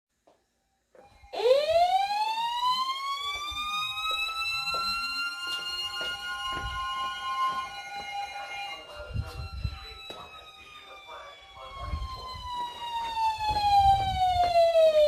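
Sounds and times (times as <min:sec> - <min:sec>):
weather radio sirens: 0:01.3 - 0:15.0.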